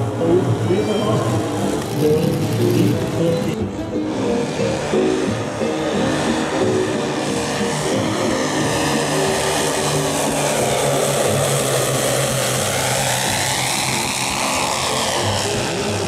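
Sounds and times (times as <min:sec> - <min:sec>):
model aircraft propellers droning: 0:00.0 - 0:16.0.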